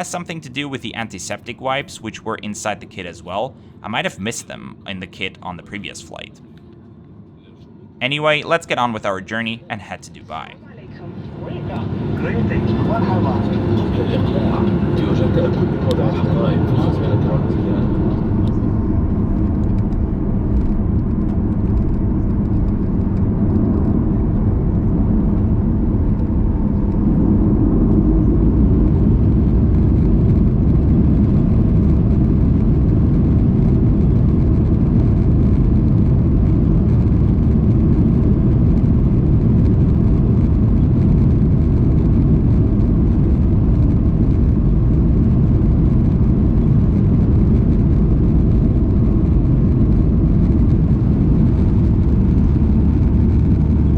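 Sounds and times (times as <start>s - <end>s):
airliner engines rumbling: 0.0s - 53.9s.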